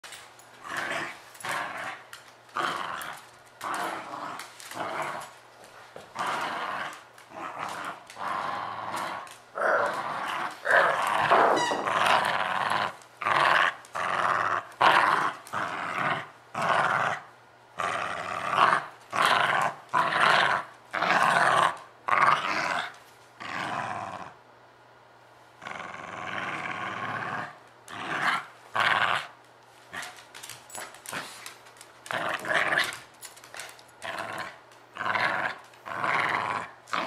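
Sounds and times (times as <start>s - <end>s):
puppy play-growling: 0.1s - 24.4s, 25.5s - 37.0s.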